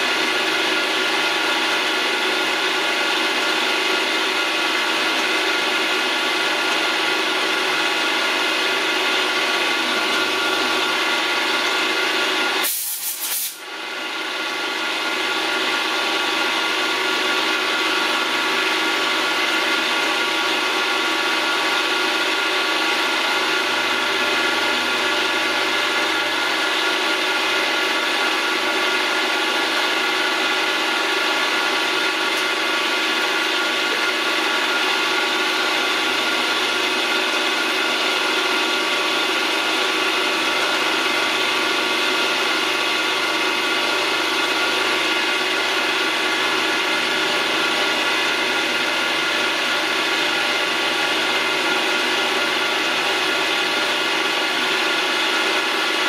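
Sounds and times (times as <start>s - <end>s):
milling machine whine: 0.0s - 12.6s, 13.7s - 56.0s.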